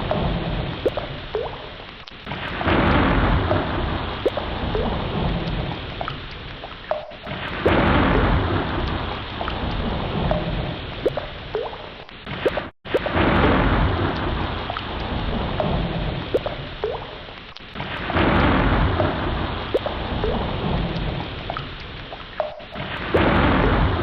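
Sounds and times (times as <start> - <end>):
thunder rumbling: 0.0 - 1.6, 2.3 - 21.9, 22.5 - 24.0
close drips ticking: 0.0 - 24.0
heavy rain pouring: 0.0 - 24.0.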